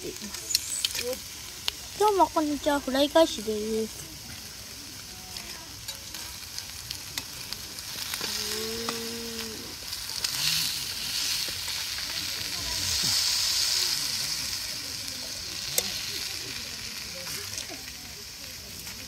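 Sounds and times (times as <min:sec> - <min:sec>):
fat crackling and popping: 0:00.0 - 0:19.0
meat sizzling in a pan: 0:00.0 - 0:19.0.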